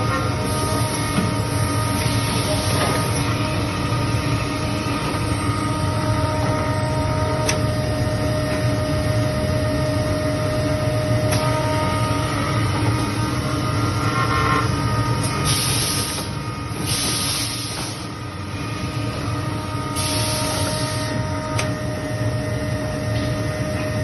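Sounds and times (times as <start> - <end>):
spindle motor humming and whining: 0.0 - 24.0.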